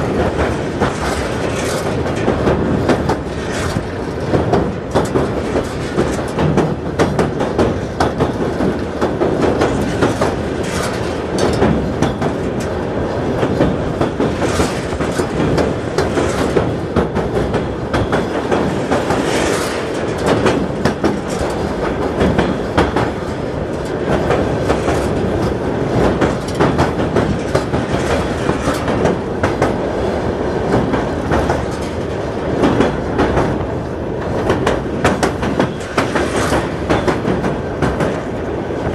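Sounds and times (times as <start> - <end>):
train rumble: 0.0 - 38.9
train wheels clattering: 0.0 - 38.9.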